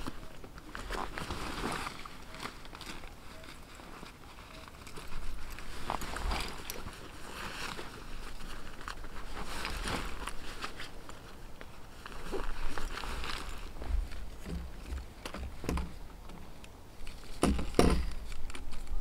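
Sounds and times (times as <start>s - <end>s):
camping gear rustling and crinkling: 0.0s - 19.0s
small clicks and crunches: 0.0s - 19.0s.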